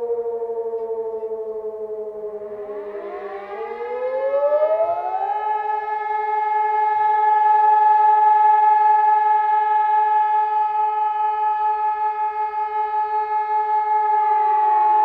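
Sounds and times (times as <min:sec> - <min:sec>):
electronic siren: 0:00.0 - 0:15.0
motor siren: 0:00.0 - 0:15.0.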